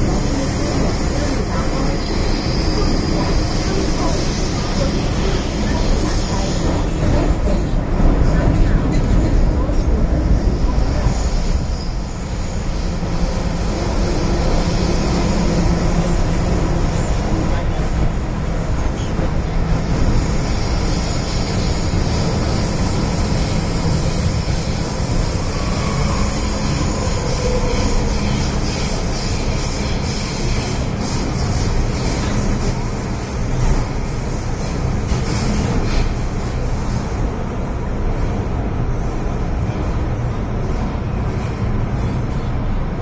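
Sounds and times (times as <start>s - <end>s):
subway car wheels rumbling on rail: 0.0s - 43.0s.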